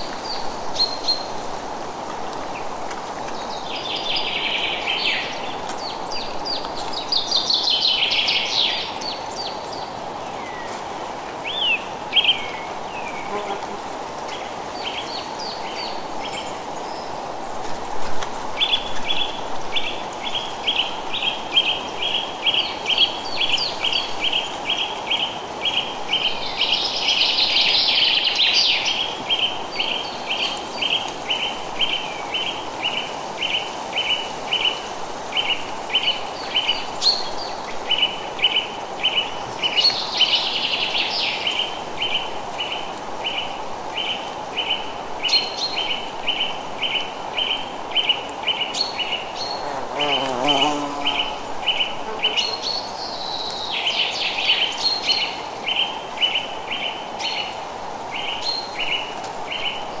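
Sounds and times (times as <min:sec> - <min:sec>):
wind through trees: 0:00.0 - 1:00.0.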